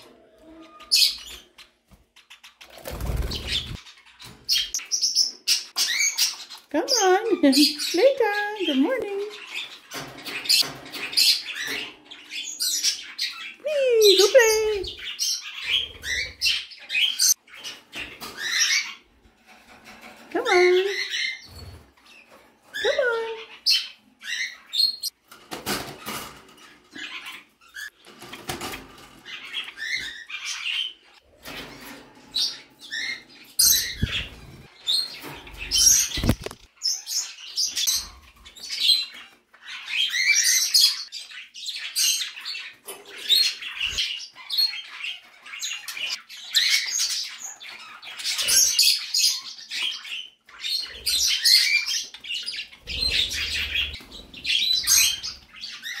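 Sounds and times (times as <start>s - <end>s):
flock of birds chirping: 0.0s - 56.0s.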